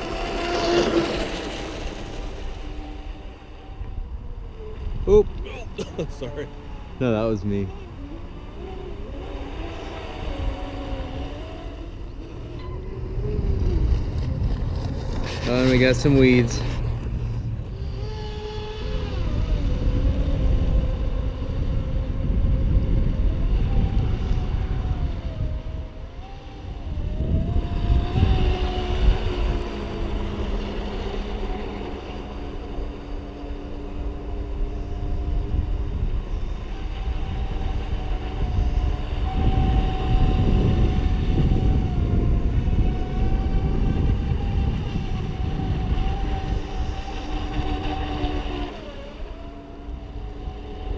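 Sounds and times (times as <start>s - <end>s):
electric motor whine: 0.0s - 50.9s
wind rumble on microphone: 0.0s - 50.9s.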